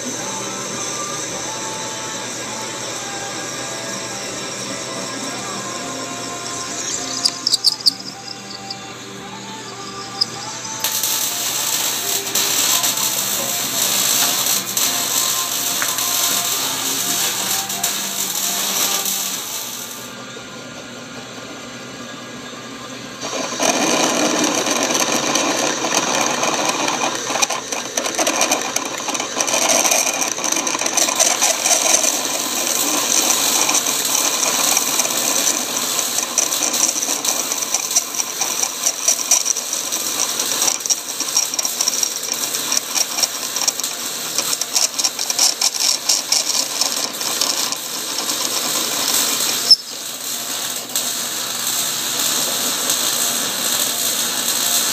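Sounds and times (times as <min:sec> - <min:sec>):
drill cutting steel: 0:00.0 - 0:20.2, 0:23.2 - 0:54.9
lathe turning: 0:00.0 - 0:20.2, 0:23.1 - 0:54.9.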